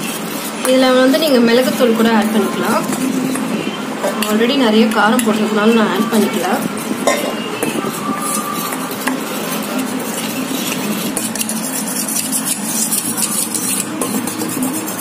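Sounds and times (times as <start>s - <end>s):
spoon stirring batter in bowl: 0.0s - 15.0s.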